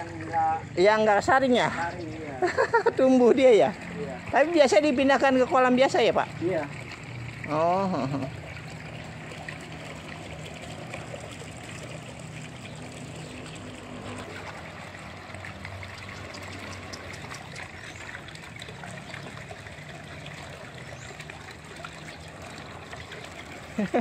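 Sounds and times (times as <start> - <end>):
pond water trickling and lapping: 0.0 - 24.0.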